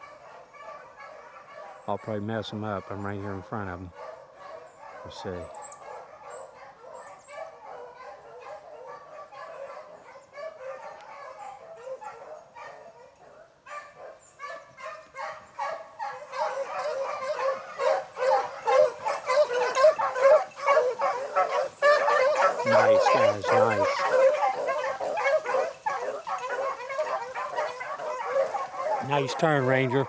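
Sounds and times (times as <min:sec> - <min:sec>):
hounds baying: 0:00.0 - 0:30.0.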